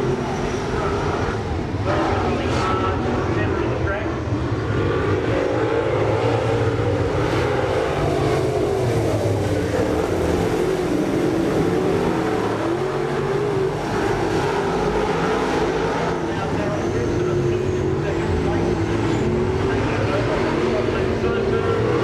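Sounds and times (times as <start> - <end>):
race car engines running hard: 0.0 - 22.0.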